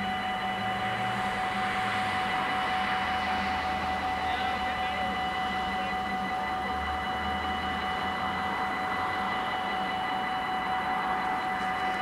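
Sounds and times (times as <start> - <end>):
level crossing warning bells: 0.0 - 12.0
passing traffic rushing: 0.0 - 12.0.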